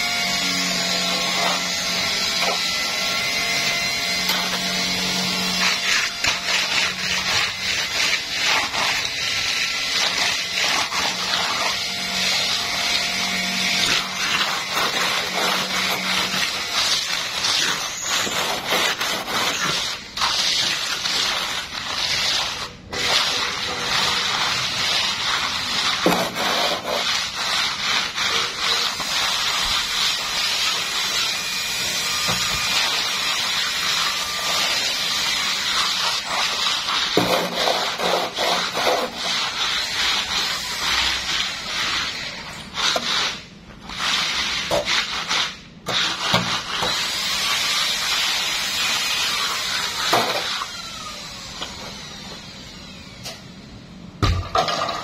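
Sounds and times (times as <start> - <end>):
float scraping wet concrete: 0.0 - 52.5.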